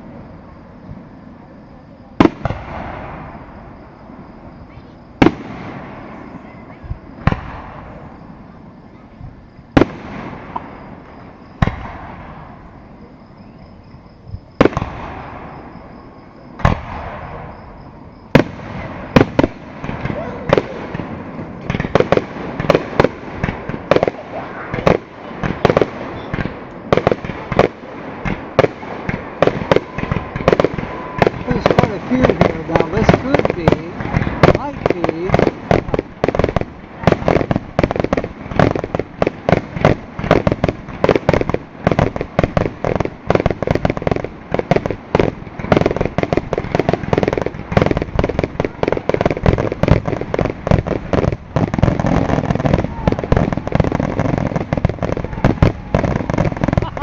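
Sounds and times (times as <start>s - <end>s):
echo of fireworks bangs: 0.0s - 13.5s, 14.4s - 57.0s
fireworks bursting: 0.0s - 13.6s, 14.2s - 57.0s.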